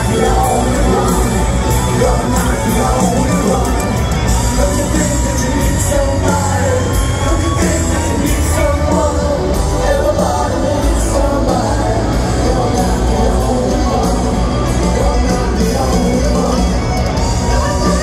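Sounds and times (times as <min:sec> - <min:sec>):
man singing a power ballad: 0:00.0 - 0:18.0
rock band playing live: 0:00.0 - 0:18.0.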